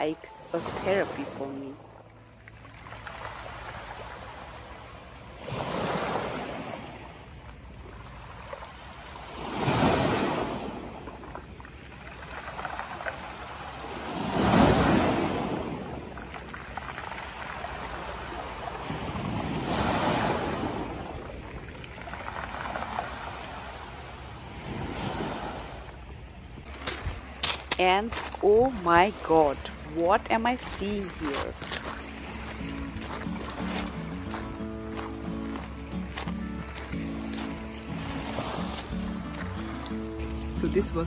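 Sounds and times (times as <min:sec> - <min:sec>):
waves breaking on pebble shore: 0:00.0 - 0:01.8, 0:02.6 - 0:40.0.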